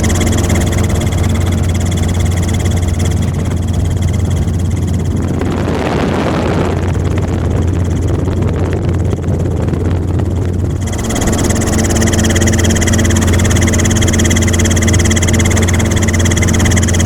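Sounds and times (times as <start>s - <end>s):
helicopter rotor hum: 0.0s - 17.0s
high turbine whine: 0.0s - 17.0s.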